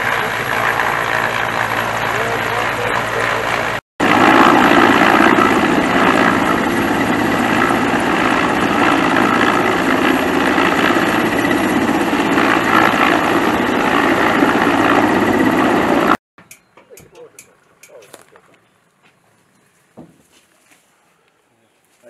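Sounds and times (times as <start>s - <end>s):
helicopter rotor and turbine noise: 0.0s - 18.7s.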